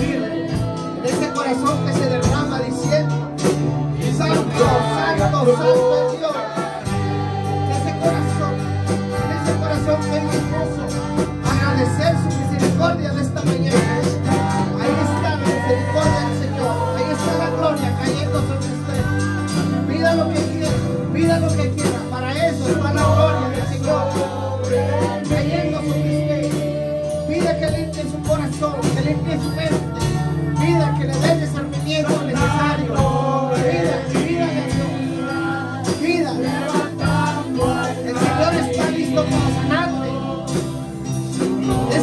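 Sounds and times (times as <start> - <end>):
bass line: 0.0 - 42.0
drum kit: 0.0 - 42.0
electric guitars: 0.0 - 42.0
man singing into microphone: 0.0 - 42.0.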